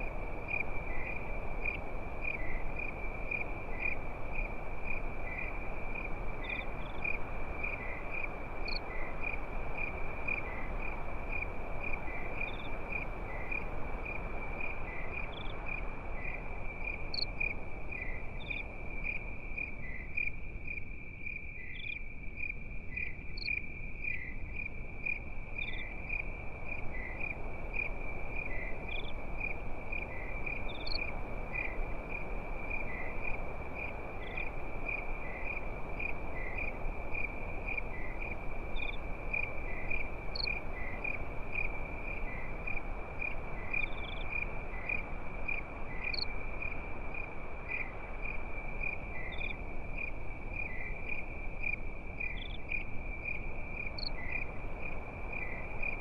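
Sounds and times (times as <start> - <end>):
crickets chirping: 0.0 - 56.0
steady low hiss: 0.0 - 56.0.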